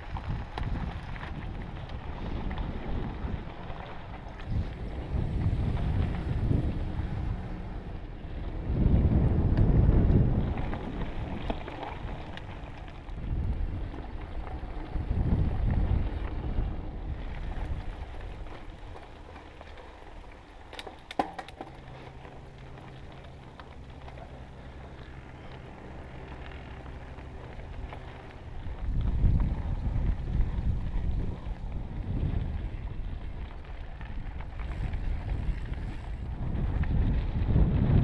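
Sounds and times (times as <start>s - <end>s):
wind buffeting microphone: 0.0s - 19.4s, 23.8s - 38.0s
tyres rumbling on dirt trail: 0.0s - 38.0s.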